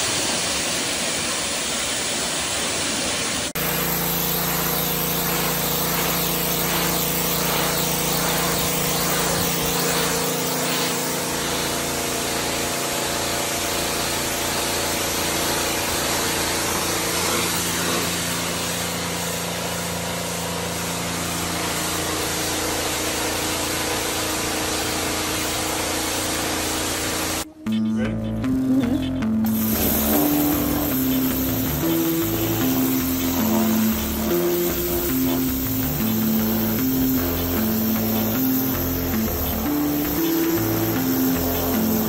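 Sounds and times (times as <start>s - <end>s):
pressure washer jet hissing: 0.0s - 27.5s, 28.2s - 42.0s
motor and pump humming: 0.0s - 42.0s.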